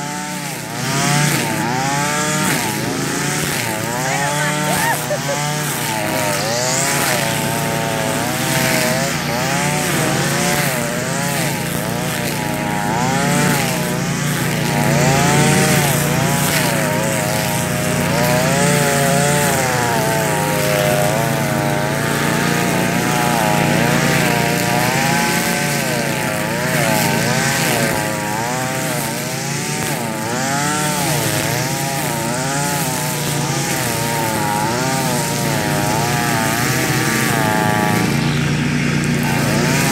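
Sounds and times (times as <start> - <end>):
string trimmer cutting grass: 0.0 - 39.9.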